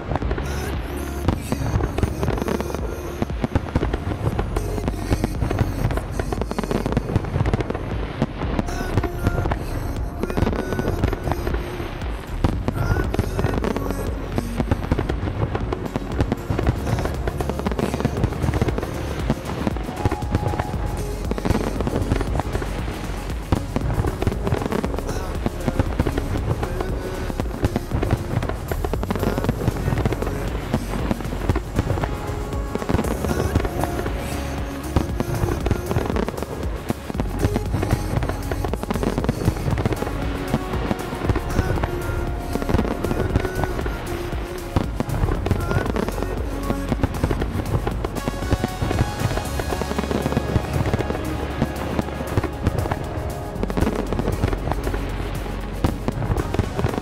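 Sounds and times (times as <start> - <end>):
fireworks bangs and crackles: 0.0 - 57.0
music playing: 0.0 - 57.0.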